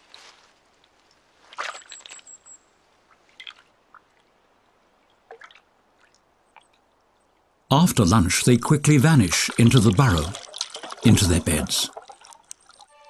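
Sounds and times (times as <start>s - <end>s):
faint wet splashes and drips: 0.0s - 7.7s, 9.1s - 13.0s.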